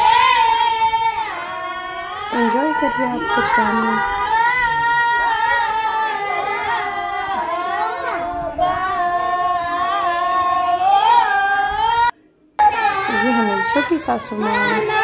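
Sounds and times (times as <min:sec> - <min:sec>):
women singing unaccompanied: 0:00.0 - 0:15.0.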